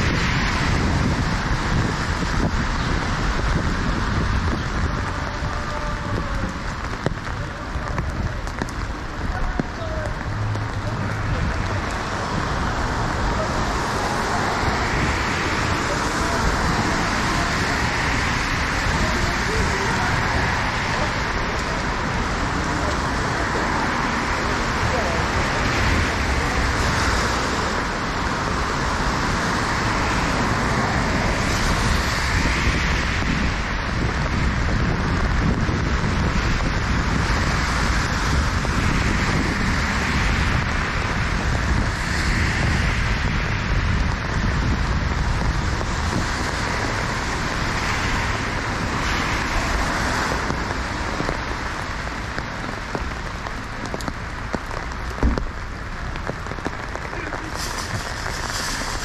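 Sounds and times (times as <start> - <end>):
cars passing on wet street: 0.0 - 59.0
rain hissing: 0.0 - 59.0.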